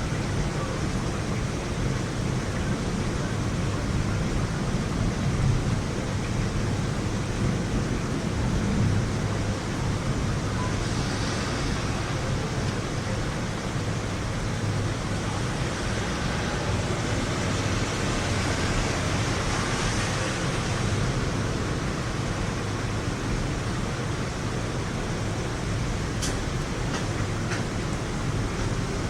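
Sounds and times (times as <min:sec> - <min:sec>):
rushing hiss of rain: 0:00.0 - 0:29.0.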